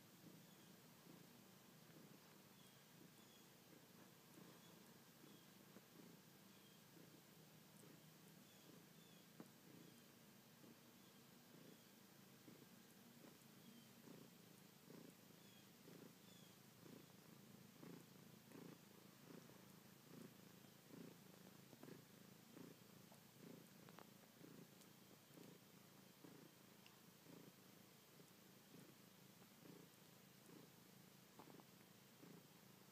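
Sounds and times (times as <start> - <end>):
cat purring: 0.0 - 32.9.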